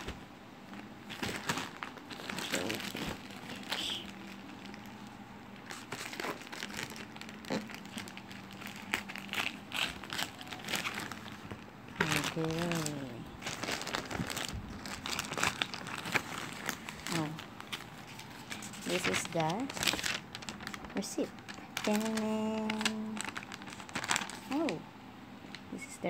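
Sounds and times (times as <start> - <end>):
plastic mailer crinkling: 0.0 - 24.8.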